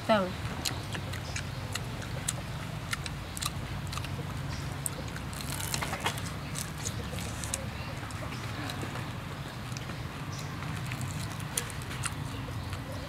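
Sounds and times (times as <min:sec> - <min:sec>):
people chewing crunchy food: 0:00.3 - 0:13.0.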